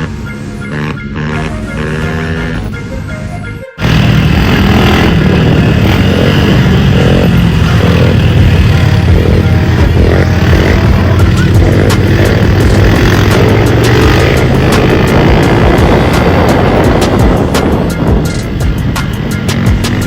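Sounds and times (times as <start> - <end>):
pit bike engine running: 0.0 - 20.0.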